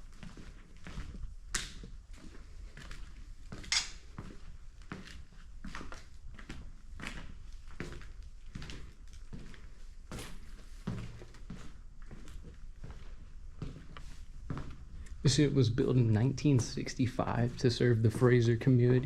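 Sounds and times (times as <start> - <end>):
footsteps on a hard floor: 0.0 - 15.0, 17.4 - 19.0.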